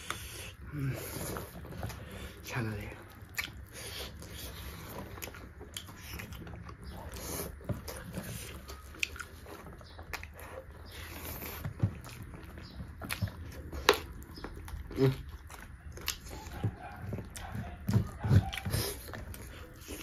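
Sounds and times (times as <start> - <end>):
people chewing and smacking lips: 0.0 - 20.0.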